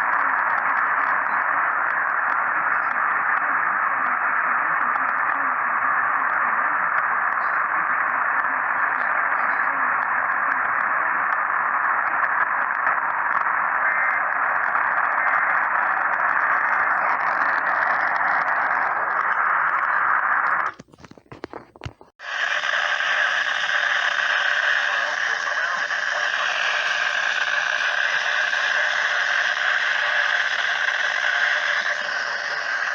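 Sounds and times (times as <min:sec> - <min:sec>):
crackles: 0:00.0 - 0:32.9
radio static hiss: 0:00.0 - 0:32.9.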